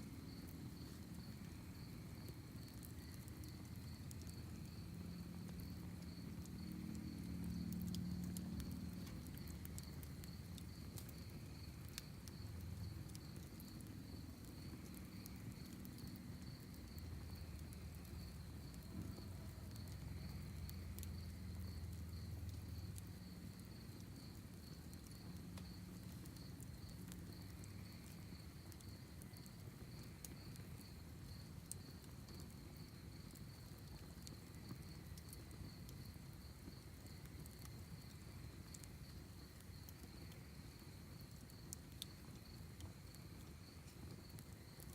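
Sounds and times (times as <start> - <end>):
campfire crackling and popping: 0.0 - 44.9
crickets chirping: 0.0 - 44.9.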